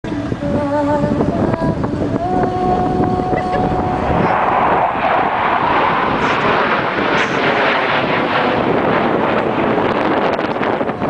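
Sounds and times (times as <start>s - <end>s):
jet roar: 0.1s - 11.0s.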